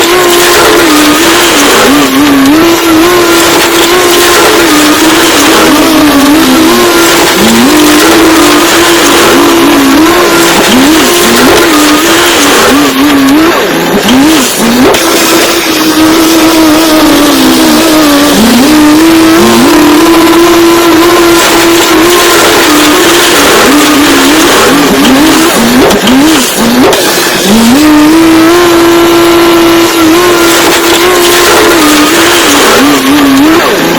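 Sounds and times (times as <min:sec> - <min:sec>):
construction machine engine whining: 0:00.0 - 0:33.9.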